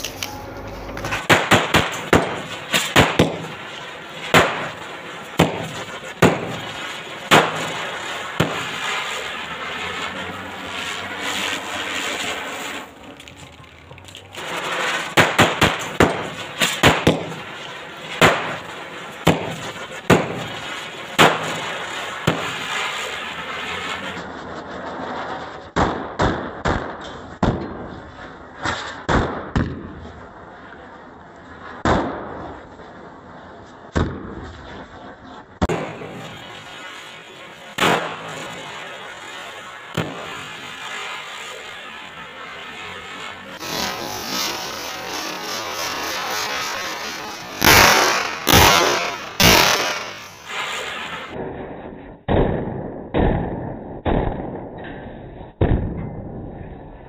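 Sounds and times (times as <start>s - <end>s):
firecrackers banging and popping: 0.0s - 30.8s, 33.9s - 56.7s.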